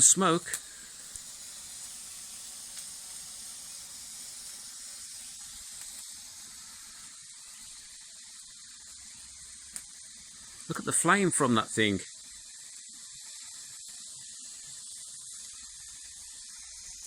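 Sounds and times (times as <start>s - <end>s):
smoke flare hissing: 0.0s - 17.0s.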